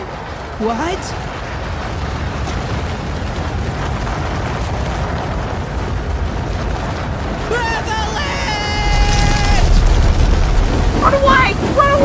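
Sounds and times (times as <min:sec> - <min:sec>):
deep rumble of sliding snow: 0:00.0 - 0:12.0.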